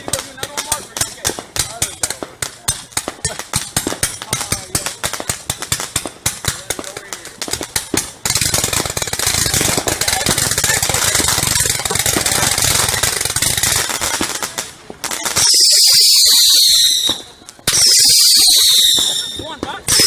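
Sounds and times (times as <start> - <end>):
fireworks crackling and popping: 0.0 - 20.0
whistling firework: 0.0 - 20.0.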